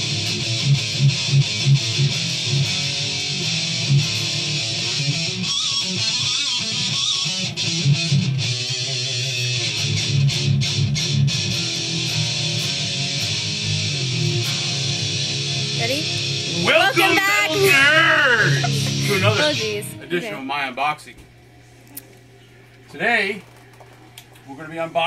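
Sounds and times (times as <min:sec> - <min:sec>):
distorted electric guitar riffs: 0:00.0 - 0:20.2.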